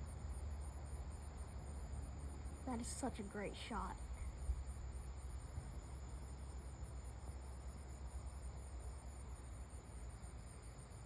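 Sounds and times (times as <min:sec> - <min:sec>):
faint low rumble: 0:00.0 - 0:11.0
insects chirping: 0:00.0 - 0:11.0.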